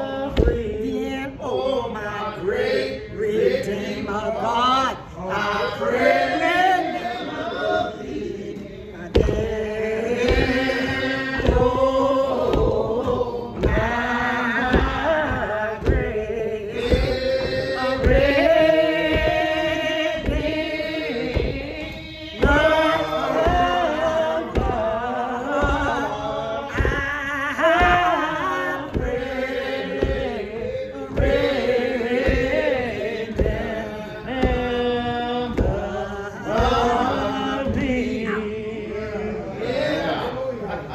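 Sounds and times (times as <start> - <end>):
woman singing a hymn: 0.0 - 40.2.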